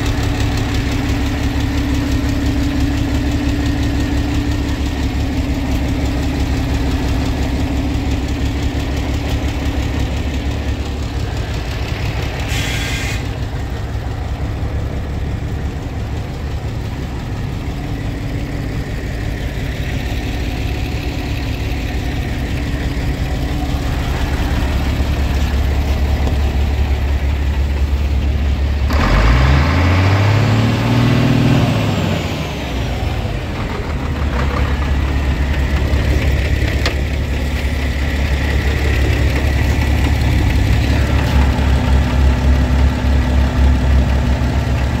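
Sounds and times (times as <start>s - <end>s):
diesel truck engine idling and revving: 0.0s - 45.0s.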